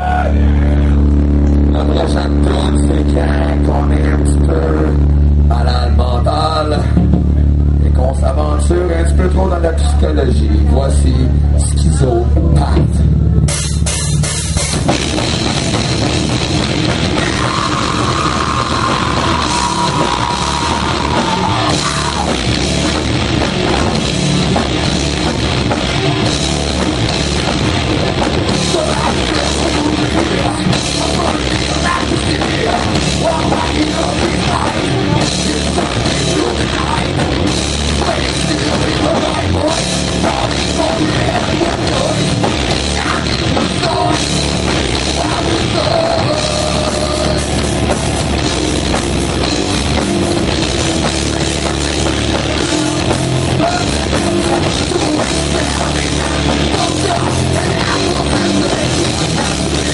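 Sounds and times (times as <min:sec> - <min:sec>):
drum kit: 0:00.0 - 0:09.3, 0:11.5 - 0:59.9
bass guitar: 0:00.0 - 0:59.9
electric guitar: 0:00.0 - 0:59.9.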